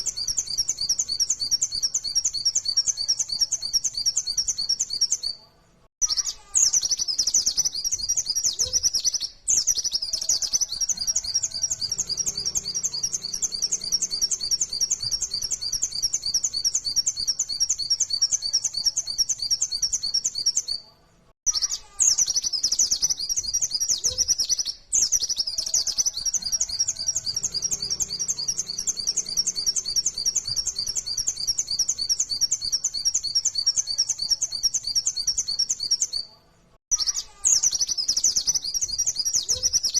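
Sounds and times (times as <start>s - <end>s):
bird singing rapid high chirps: 0.0s - 5.4s, 6.0s - 20.8s, 21.5s - 36.3s, 36.9s - 39.9s.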